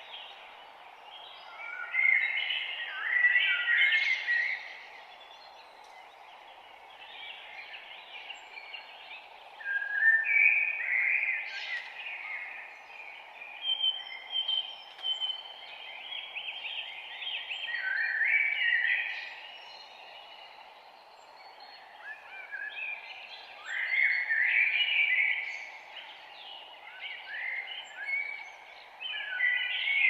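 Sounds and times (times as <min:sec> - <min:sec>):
faint background hiss: 0:00.0 - 0:30.0
songbirds singing and chirping: 0:00.0 - 0:30.0.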